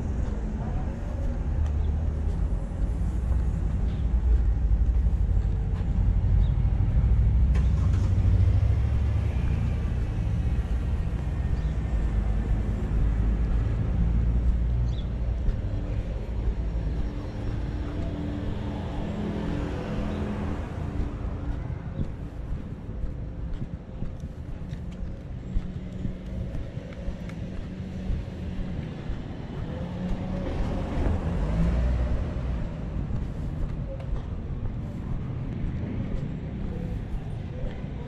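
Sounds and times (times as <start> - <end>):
vehicle engine rumble: 0.0 - 38.0.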